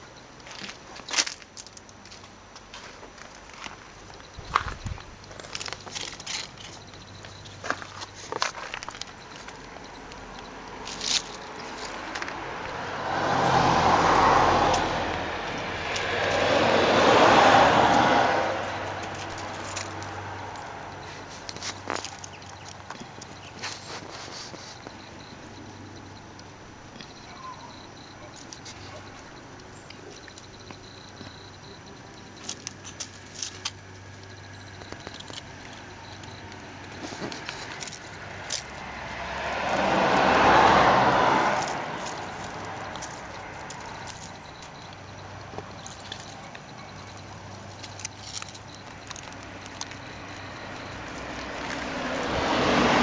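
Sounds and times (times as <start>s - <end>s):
vehicles passing by: 0.0s - 53.0s
rabbits scratching on gravel: 0.4s - 30.5s, 32.2s - 53.0s.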